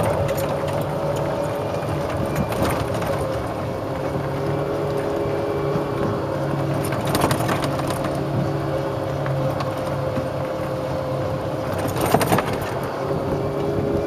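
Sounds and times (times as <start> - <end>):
rattles and clicks from cart body: 0.0 - 10.8, 11.6 - 14.0
golf cart driving: 0.0 - 14.0.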